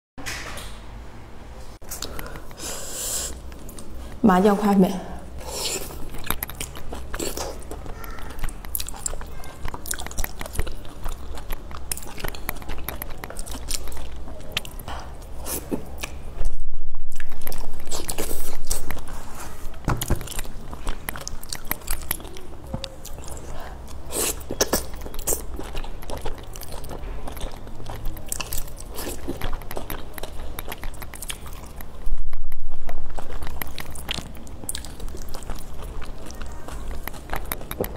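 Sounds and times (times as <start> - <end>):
chewing noodles: 5.4 - 37.9.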